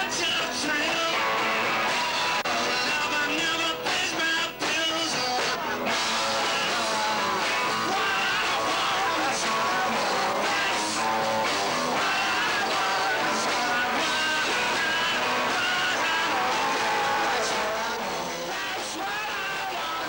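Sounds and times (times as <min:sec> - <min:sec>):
electric guitars: 0:00.0 - 0:20.0
live rock band playing: 0:00.0 - 0:20.0.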